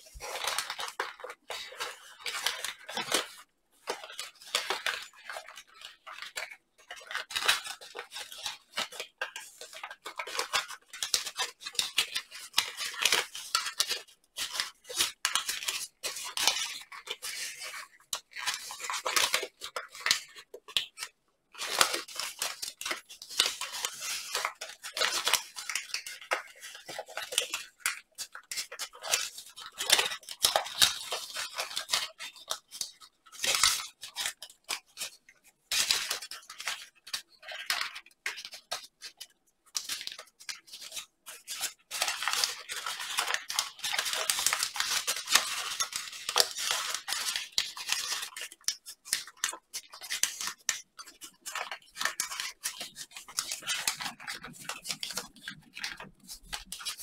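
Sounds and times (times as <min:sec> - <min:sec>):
paper crinkling and rustling: 0:00.0 - 0:57.0.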